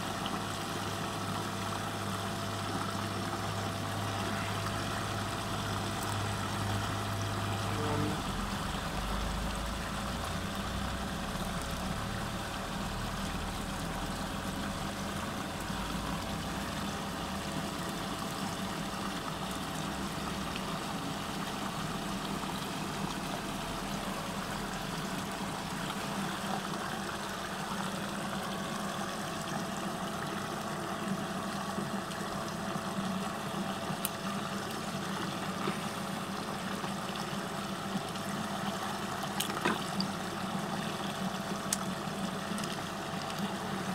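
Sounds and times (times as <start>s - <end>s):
pump motor hum: 0.0s - 43.9s.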